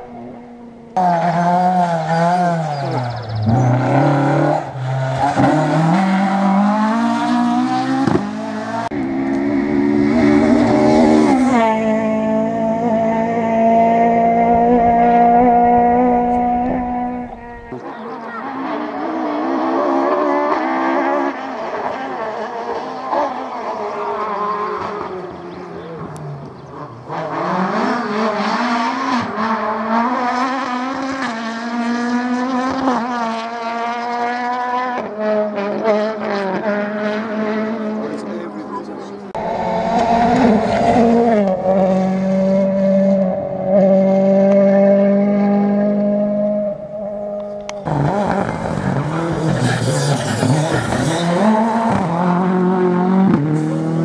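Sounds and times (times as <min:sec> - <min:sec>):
rally car engine at full throttle: 0:00.0 - 0:54.0.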